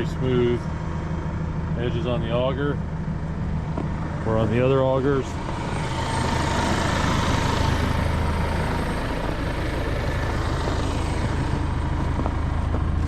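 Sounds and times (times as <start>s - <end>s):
tractor diesel engine humming: 0.0s - 13.0s.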